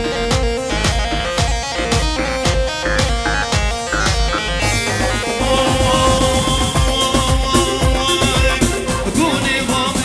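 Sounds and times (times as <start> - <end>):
instrumental folk dance music: 0.0 - 10.0.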